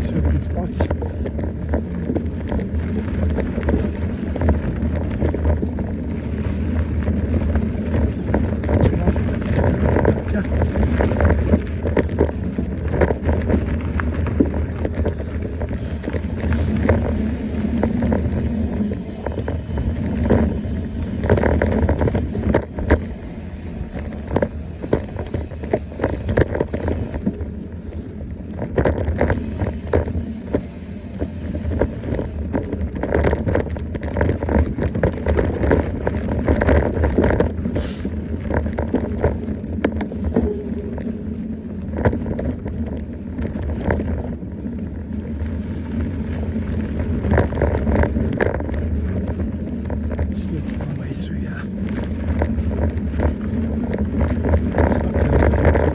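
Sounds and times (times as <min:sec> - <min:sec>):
bike rattling over bumps: 0:00.0 - 0:55.9
bike tyre noise: 0:00.0 - 0:55.9
wind rumbling on microphone: 0:00.0 - 0:55.9.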